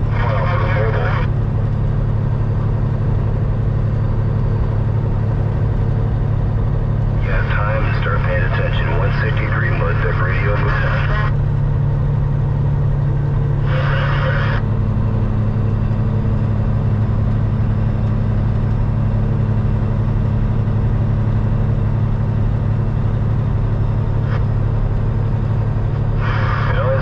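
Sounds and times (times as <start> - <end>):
diesel engine drone: 0.0 - 27.0
road noise: 0.0 - 27.0.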